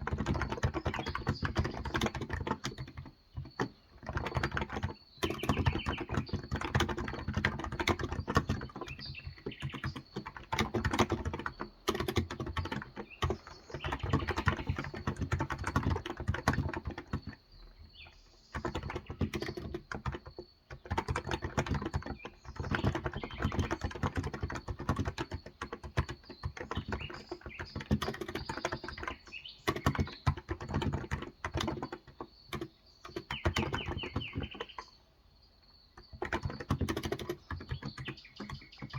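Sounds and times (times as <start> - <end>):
keyboard typing clicks: 0.0 - 35.0, 35.9 - 38.9.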